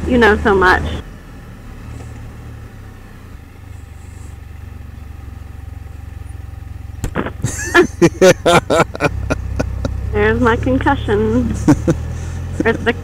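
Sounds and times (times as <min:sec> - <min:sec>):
motorcycle engine running low: 0:00.0 - 0:13.0.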